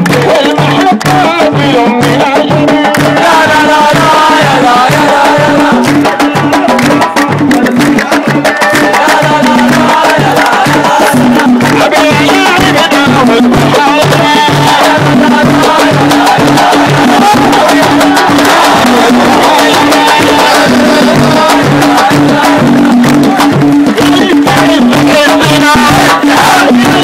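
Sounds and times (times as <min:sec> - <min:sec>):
frame drums beating: 0:00.0 - 0:27.0
crowd chanting: 0:01.6 - 0:27.0.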